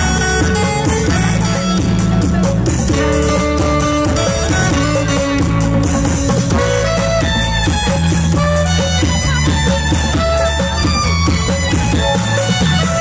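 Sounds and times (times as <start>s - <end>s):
live band music over loudspeakers: 0.0s - 13.0s.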